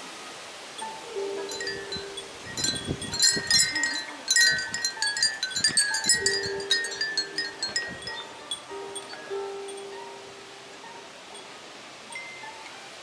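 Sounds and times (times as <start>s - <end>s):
low gusty wind rumbles: 0.4s - 12.1s
wind bells jingling: 0.8s - 13.0s.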